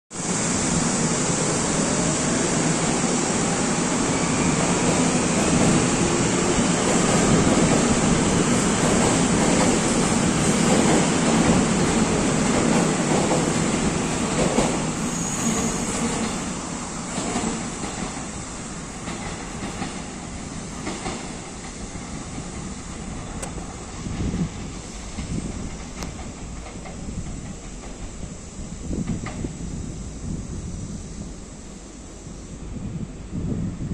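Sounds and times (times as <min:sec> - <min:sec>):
electric train rumbling past: 0:00.1 - 0:33.9.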